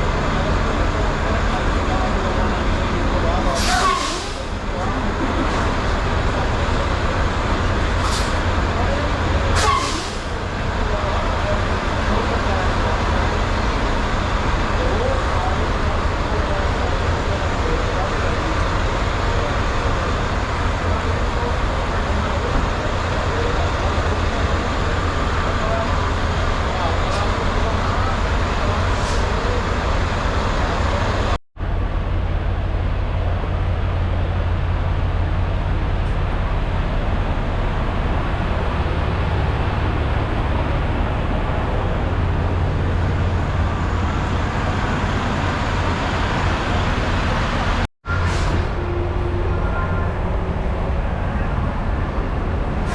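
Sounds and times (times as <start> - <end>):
truck diesel engine running: 0.0 - 52.9
vehicle rumble and hiss: 0.0 - 52.9.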